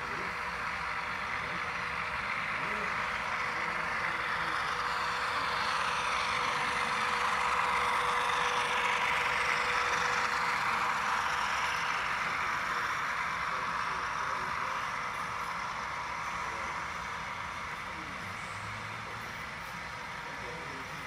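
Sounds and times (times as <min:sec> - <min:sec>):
diesel engine through small speaker: 0:00.0 - 0:21.0.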